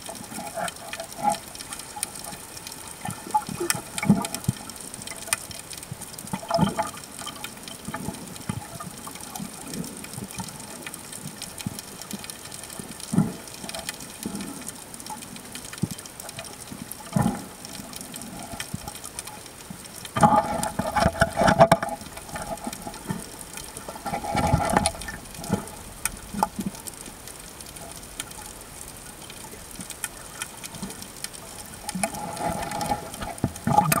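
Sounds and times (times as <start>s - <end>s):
splashing and bubbling bursts: 0.0s - 15.4s, 16.0s - 34.0s
underwater water sloshing and bubbling: 0.0s - 34.0s.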